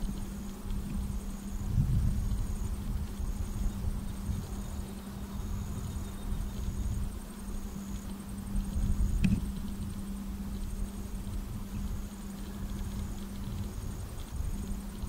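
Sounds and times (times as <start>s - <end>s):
faint insect chirp: 0.0s - 15.0s
low uneven rumble: 0.0s - 15.0s
steady low hum: 0.0s - 15.0s.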